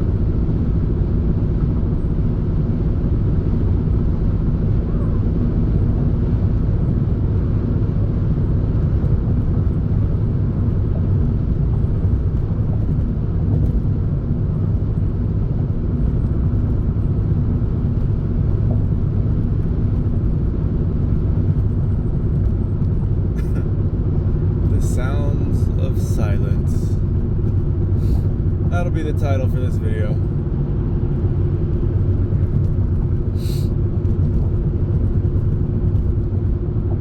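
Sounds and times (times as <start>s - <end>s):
car engine rumble: 0.0s - 37.0s
road noise: 0.0s - 37.0s.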